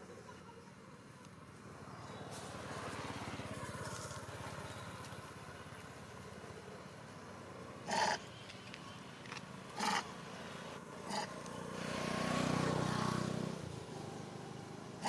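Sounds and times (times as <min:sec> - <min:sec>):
passing vehicle engine: 0:01.4 - 0:15.0.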